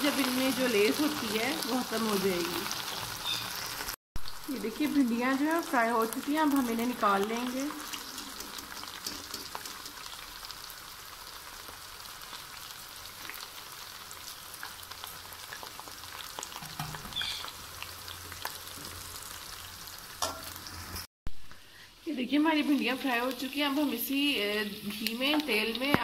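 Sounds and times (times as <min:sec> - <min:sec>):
okra sizzling in hot oil: 0:00.0 - 0:26.0.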